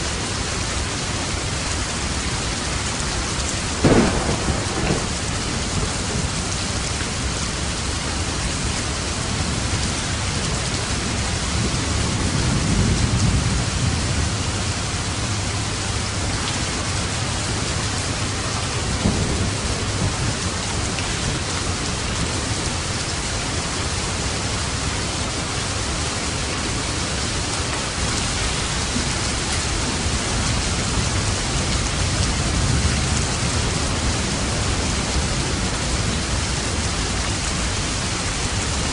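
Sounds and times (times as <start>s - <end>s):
heavy rain falling: 0.0s - 38.9s
low rolling thunder: 3.5s - 22.9s, 27.2s - 38.9s.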